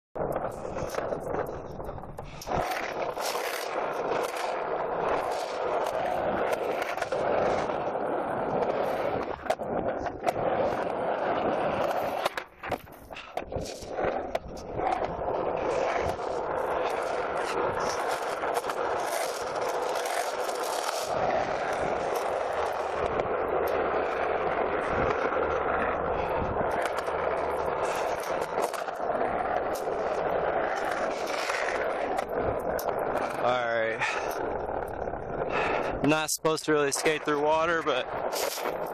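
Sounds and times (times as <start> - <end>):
skateboard clacks: 0.2 - 38.9
skateboard wheels rolling on concrete: 0.2 - 38.9.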